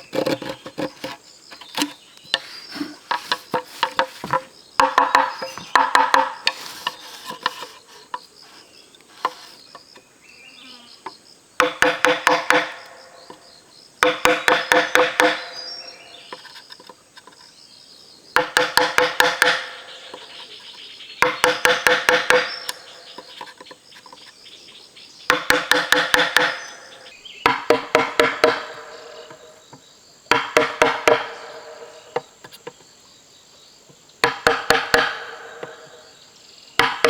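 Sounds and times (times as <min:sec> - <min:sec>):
blade chopping hollow bamboo: 0:00.0 - 0:08.2, 0:09.1 - 0:09.8, 0:11.6 - 0:13.4, 0:14.0 - 0:17.4, 0:18.4 - 0:24.3, 0:25.3 - 0:32.8, 0:34.2 - 0:36.1, 0:36.8 - 0:37.0.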